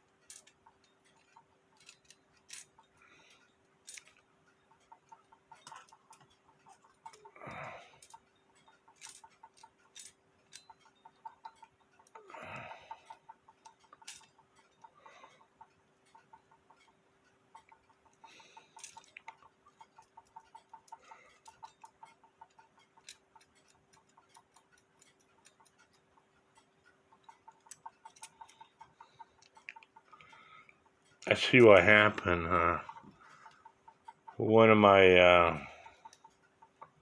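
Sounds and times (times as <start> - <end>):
irregular clicks: 0.0 - 34.4, 35.4 - 37.0
clock ticking faintly: 0.0 - 37.0.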